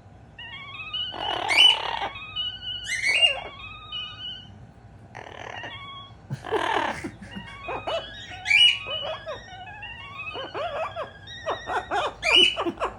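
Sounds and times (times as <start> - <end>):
parrot squawking and calling: 0.4 - 12.9.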